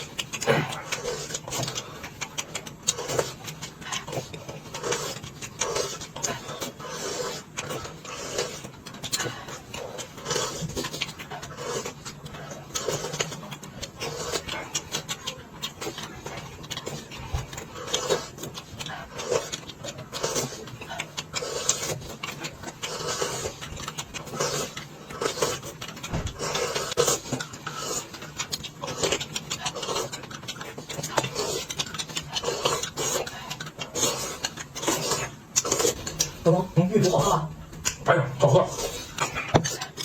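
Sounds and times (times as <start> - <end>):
chewing and lip smacking: 0.0 - 40.0.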